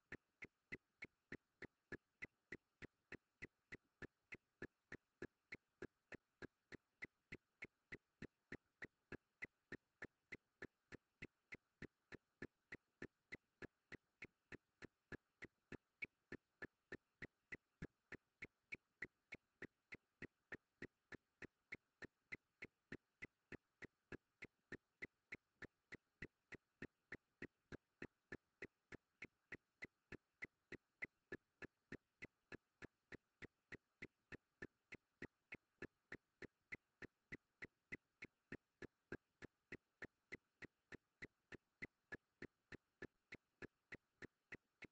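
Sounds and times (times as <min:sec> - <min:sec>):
faint regular ticking: 0:00.1 - 0:44.9.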